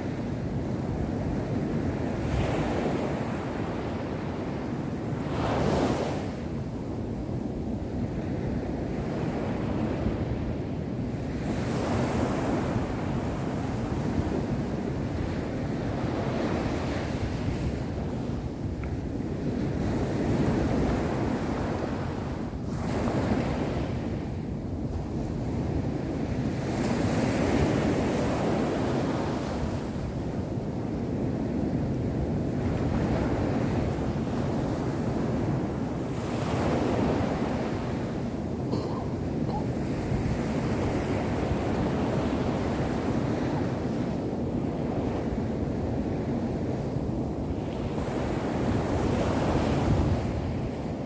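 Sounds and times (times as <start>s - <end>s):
small waves washing on beach: 0.0s - 51.0s.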